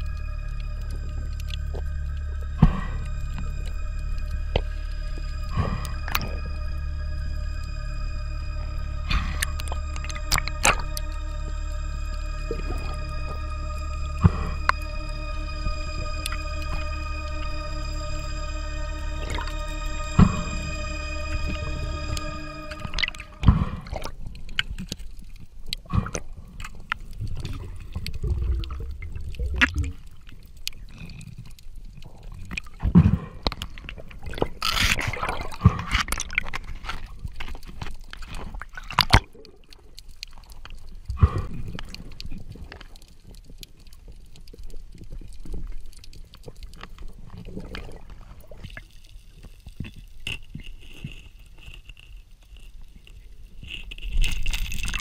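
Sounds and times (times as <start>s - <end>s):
underwater bubbling: 0.0s - 55.0s.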